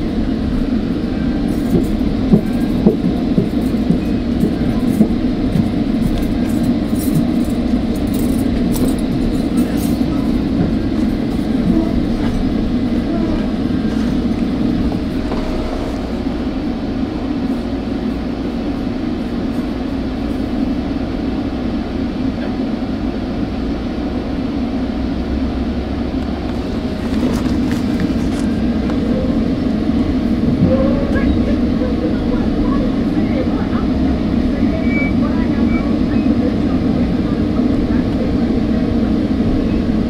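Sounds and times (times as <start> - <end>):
train coach rumble: 0.0 - 40.0.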